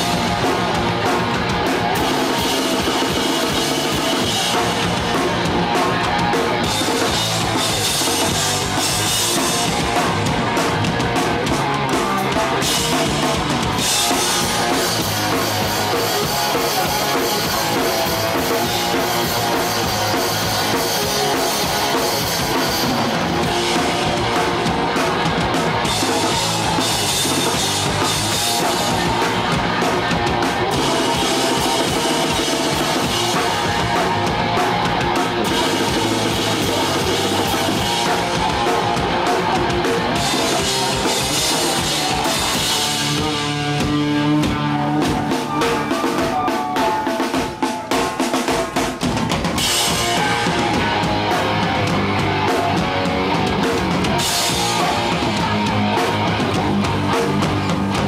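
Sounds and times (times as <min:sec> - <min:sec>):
bass guitar: 0:00.0 - 0:58.0
distorted electric guitar: 0:00.0 - 0:58.0
drum kit: 0:00.0 - 0:58.0.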